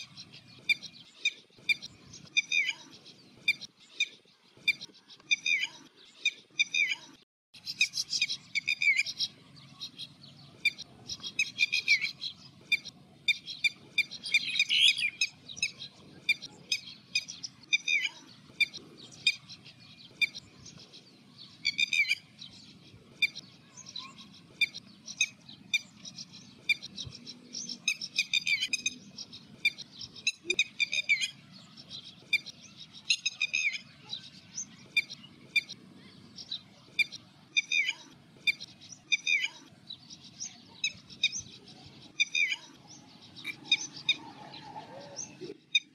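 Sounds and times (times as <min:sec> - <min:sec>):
lapwing calling: 0:07.6 - 0:45.9.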